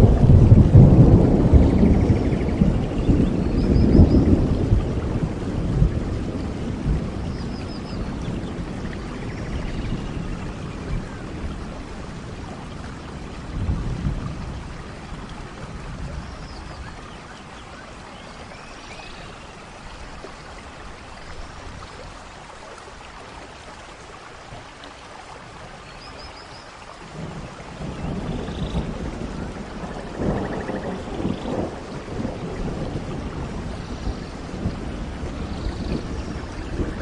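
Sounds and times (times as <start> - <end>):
rain falling in forest: 0.0 - 37.0.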